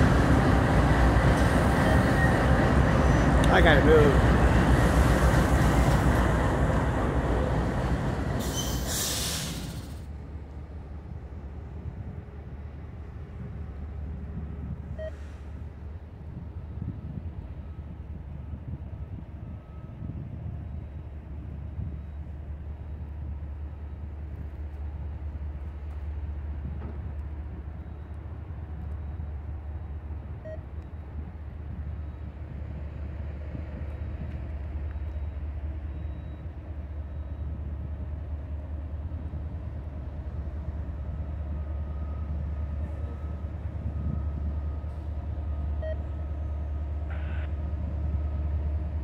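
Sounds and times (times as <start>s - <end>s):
distant diesel locomotives rumbling: 0.0s - 49.0s.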